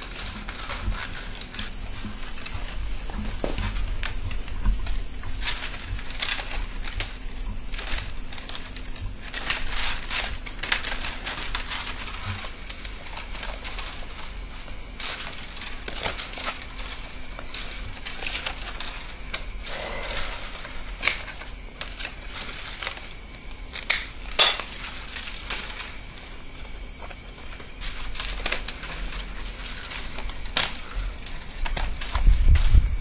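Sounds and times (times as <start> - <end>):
bamboo strips rubbing and crackling: 0.0 - 33.0.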